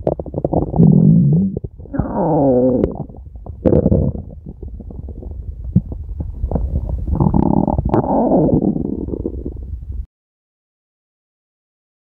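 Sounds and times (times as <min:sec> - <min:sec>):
stomach growling: 0:00.0 - 0:10.0.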